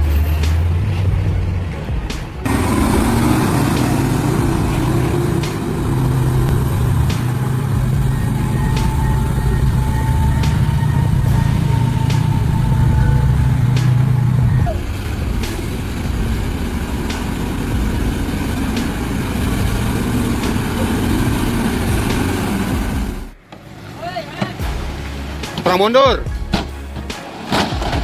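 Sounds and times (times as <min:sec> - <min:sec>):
high whine: 0:00.0 - 0:23.5
heavy truck engine under load: 0:00.0 - 0:24.0.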